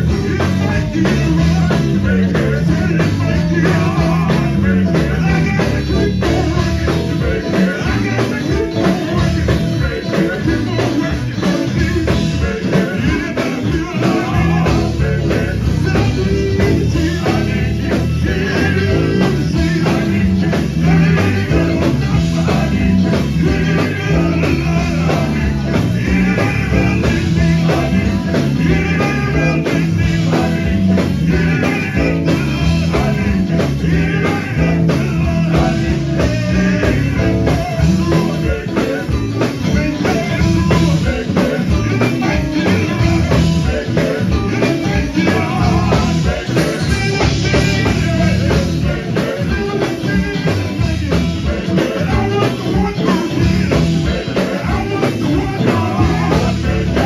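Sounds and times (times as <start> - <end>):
band with drum kit: 0.0 - 57.0
group singers: 0.0 - 57.0
lead singer belting: 0.0 - 57.0.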